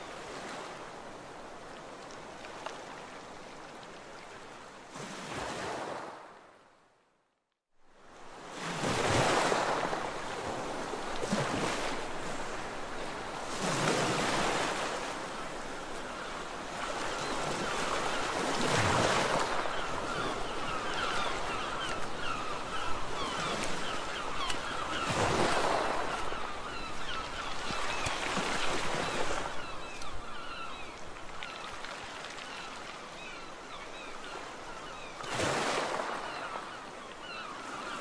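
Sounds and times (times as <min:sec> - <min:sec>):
sea waves breaking on beach: 0:00.0 - 0:06.6, 0:08.1 - 0:38.0.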